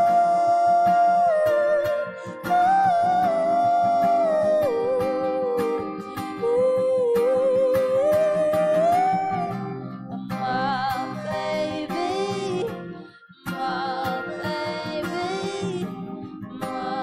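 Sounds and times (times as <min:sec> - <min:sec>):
acoustic guitar: 0:00.0 - 0:17.0
woman singing lead: 0:00.0 - 0:17.0.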